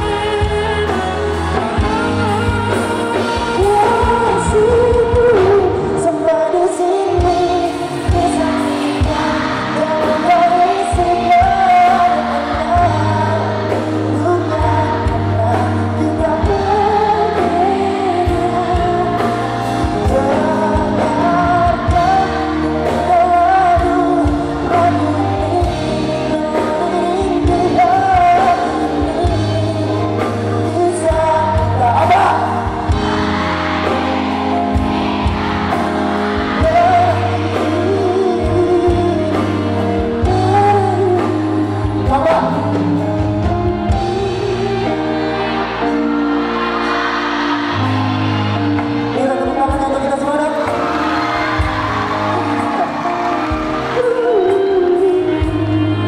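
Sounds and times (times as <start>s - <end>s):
man singing into microphone: 0.0s - 33.0s, 36.5s - 45.3s, 49.1s - 56.0s
drums: 0.0s - 56.0s
live band playing: 0.0s - 56.0s.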